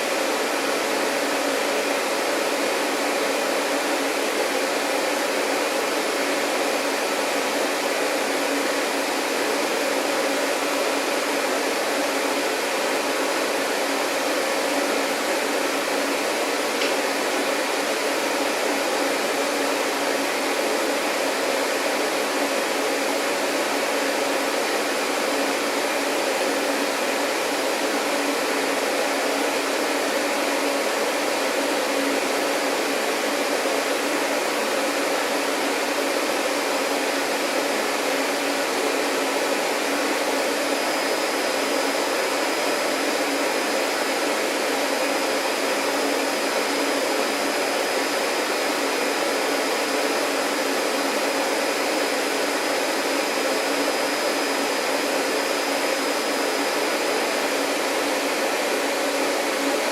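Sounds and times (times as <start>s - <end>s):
vacuum cleaner motor running: 0.0s - 59.9s.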